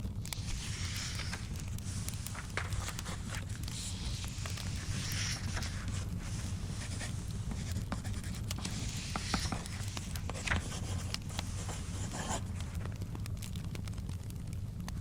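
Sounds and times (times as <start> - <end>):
wood fire crackling: 0.0 - 15.0
paper pages rustling: 0.3 - 13.0.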